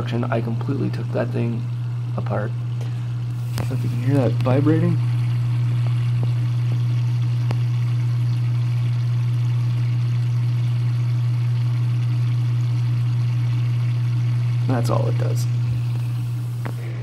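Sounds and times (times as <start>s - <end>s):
drain pump humming: 0.0s - 17.0s.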